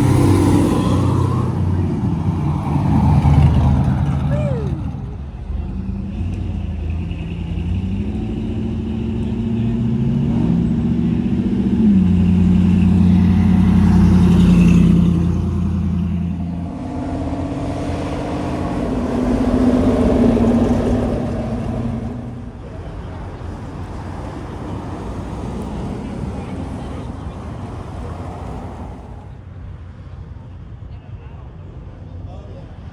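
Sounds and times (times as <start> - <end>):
car engines driving past: 0.0 - 32.9.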